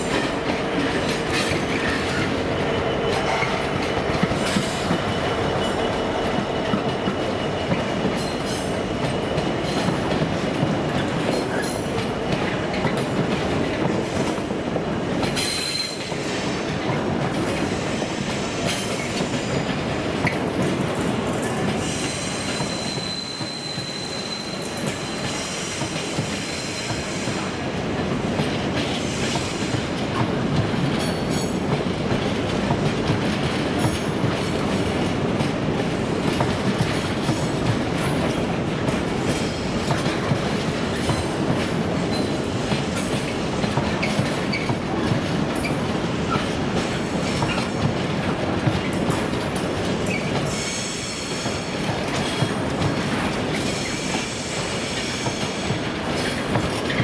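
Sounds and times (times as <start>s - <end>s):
train wheel squeal: 0.0s - 14.4s, 15.2s - 27.7s, 28.4s - 31.7s, 35.8s - 47.9s, 48.7s - 57.0s
train wheels clattering over rails: 0.0s - 57.0s.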